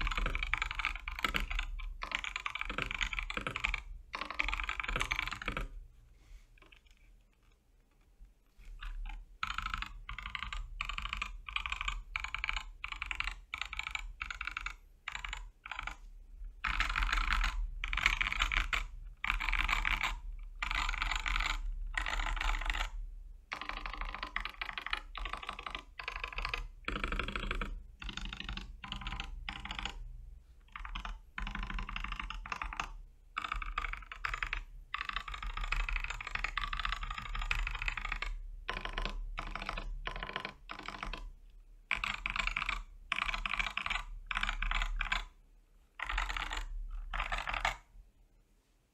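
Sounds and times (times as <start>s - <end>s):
mechanical keyboard typing: 0.0s - 5.8s, 8.8s - 45.4s, 46.0s - 47.9s.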